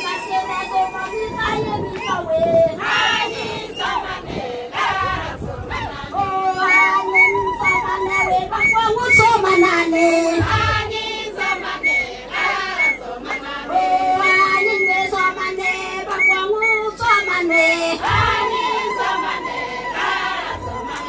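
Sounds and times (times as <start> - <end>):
women's choir singing: 0.0 - 21.0.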